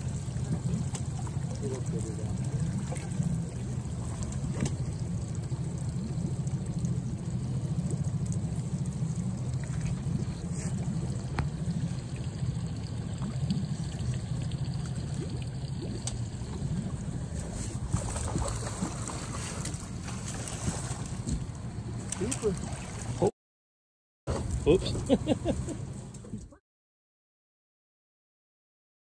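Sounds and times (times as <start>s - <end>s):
low rumble: 0.0s - 23.3s
water splashing against boat: 0.0s - 23.3s, 24.3s - 26.6s.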